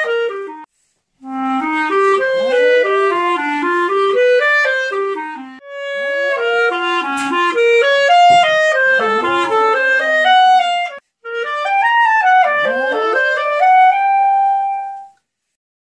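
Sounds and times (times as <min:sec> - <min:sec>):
clarinet playing melody: 0:00.0 - 0:15.2.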